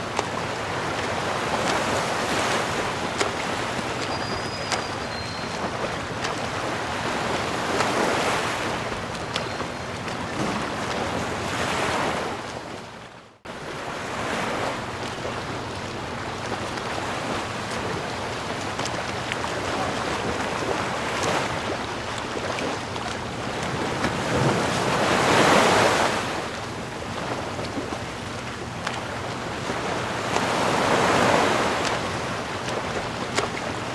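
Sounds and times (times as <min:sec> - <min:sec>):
ocean waves washing ashore: 0:00.0 - 0:33.9.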